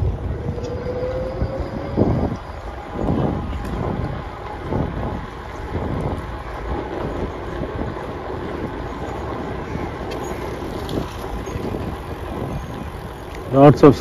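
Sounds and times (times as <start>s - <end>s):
bicycle road rumble: 0.0s - 14.0s
wind buffeting microphone: 0.0s - 14.0s.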